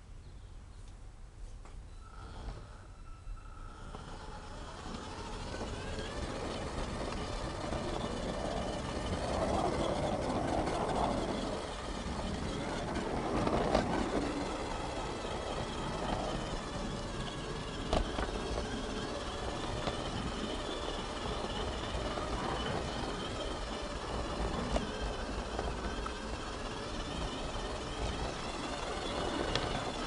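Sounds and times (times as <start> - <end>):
model train rumbling on track: 2.0 - 30.0.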